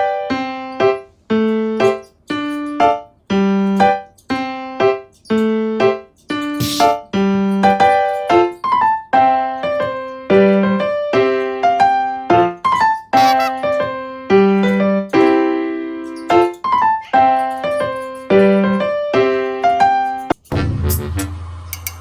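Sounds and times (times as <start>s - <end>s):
electric piano melody: 0.0s - 20.5s.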